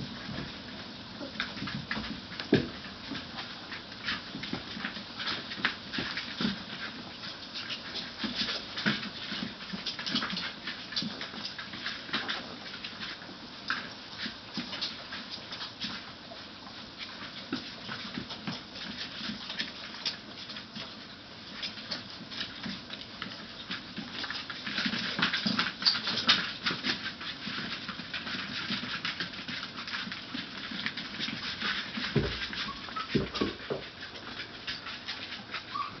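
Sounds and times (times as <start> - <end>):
puppies suckling: 0.2 - 36.0.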